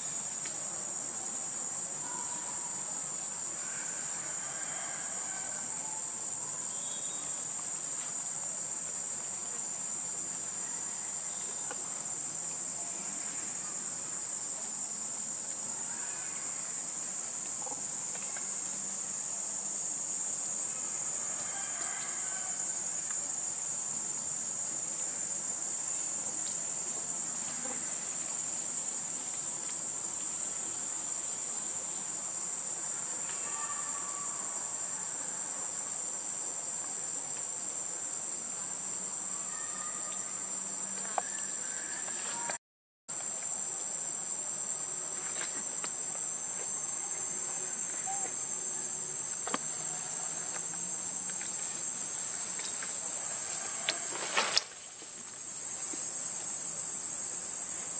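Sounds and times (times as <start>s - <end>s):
shrill insect chorus: 0.0s - 57.9s.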